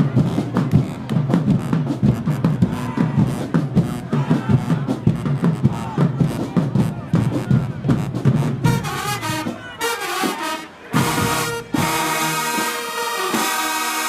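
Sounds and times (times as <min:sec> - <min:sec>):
drum hits: 0:00.0 - 0:13.4
brass section playing chords: 0:00.0 - 0:14.0.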